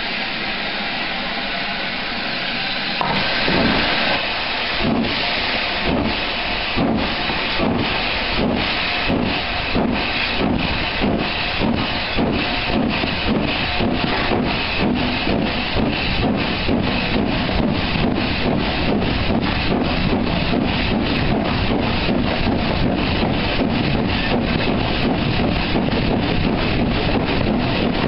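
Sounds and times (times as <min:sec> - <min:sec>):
steam locomotive chuffing: 0:00.0 - 0:28.0.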